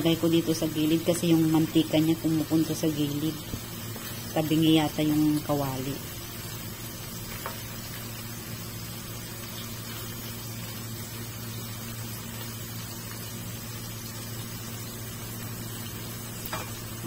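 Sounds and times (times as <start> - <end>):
patties sizzling in oil: 0.0 - 17.0.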